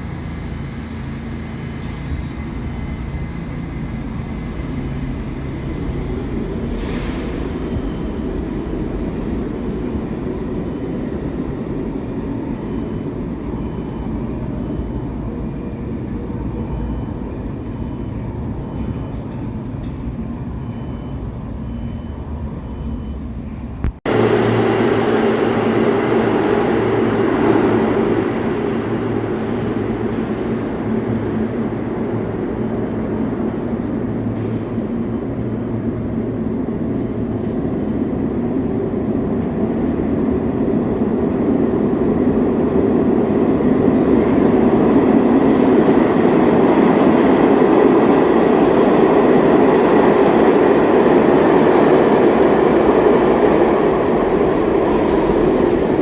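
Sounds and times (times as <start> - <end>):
subway train wheels on rail: 0.0 - 56.0.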